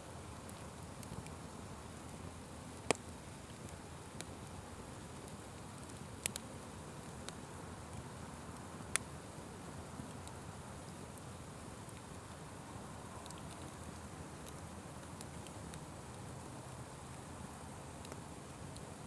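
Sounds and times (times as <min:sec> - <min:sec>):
fire crackles and pops: 0:00.0 - 0:19.0.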